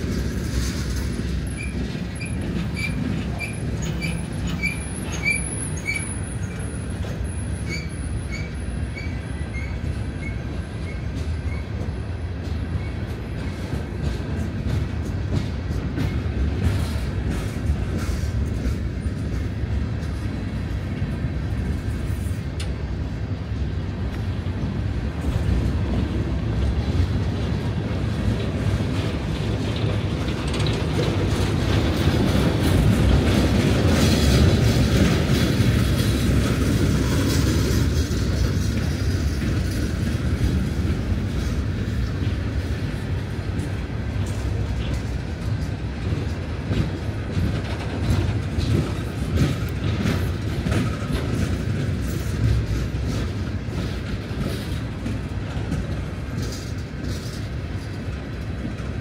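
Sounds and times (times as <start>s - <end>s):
steel wheels rumbling on rail: 0.0s - 59.0s
wheels clattering over rail joints: 0.0s - 59.0s.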